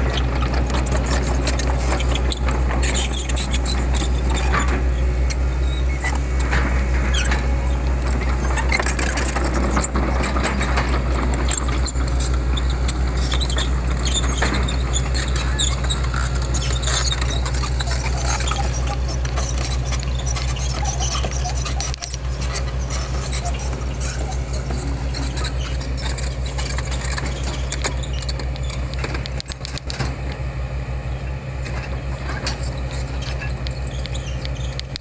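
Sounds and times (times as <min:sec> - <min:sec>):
squeaks and clicks: 0:00.0 - 0:30.4, 0:31.6 - 0:35.0
heavy machine engine running: 0:00.0 - 0:35.0.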